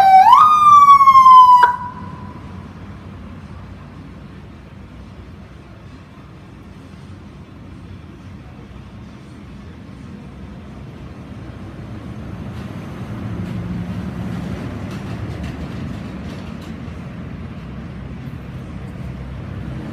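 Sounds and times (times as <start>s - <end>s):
engine rumble: 0.0s - 19.9s.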